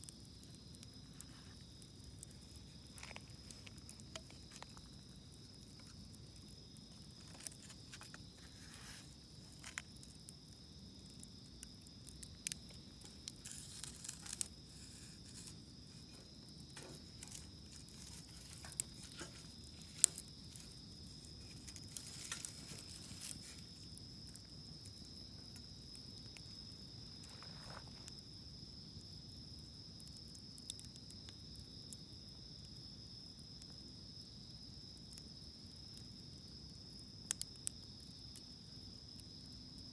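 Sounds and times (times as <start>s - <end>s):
campfire crackling and popping: 0.0s - 34.0s, 34.8s - 39.5s
insects chirring: 0.0s - 39.9s.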